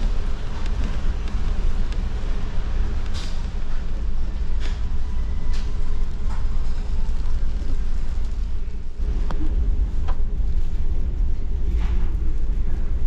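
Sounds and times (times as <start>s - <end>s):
deep ship engine rumble: 0.0s - 13.0s.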